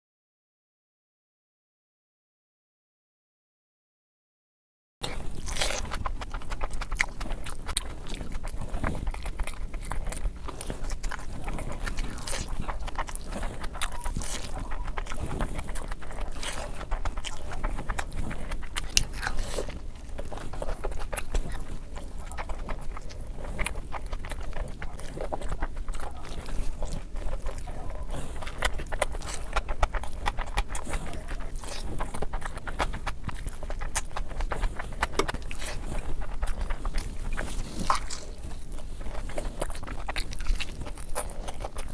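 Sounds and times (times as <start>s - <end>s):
wet chewing and mouth clicks: 5.0s - 41.9s.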